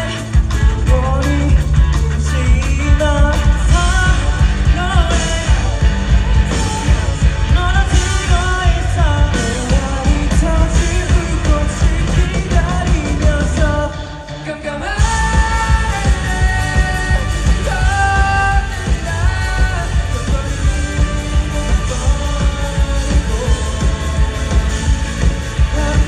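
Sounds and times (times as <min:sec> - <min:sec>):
lead vocal singing: 0:00.0 - 0:26.0
live rock band playing: 0:00.0 - 0:26.0.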